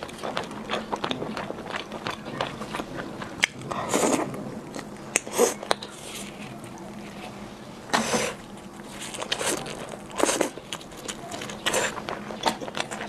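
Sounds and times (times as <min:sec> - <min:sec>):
wet chewing and mouth sounds: 0:00.0 - 0:13.0.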